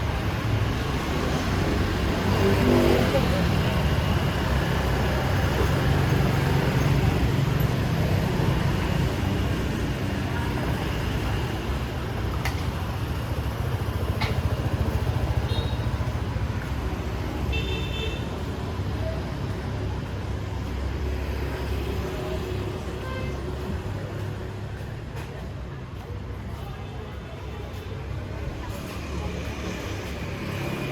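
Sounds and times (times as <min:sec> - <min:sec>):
traffic rumble: 0:00.0 - 0:30.9.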